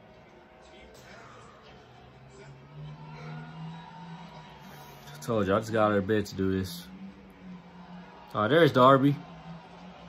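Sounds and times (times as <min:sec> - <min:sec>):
faint music: 0:00.0 - 0:10.0.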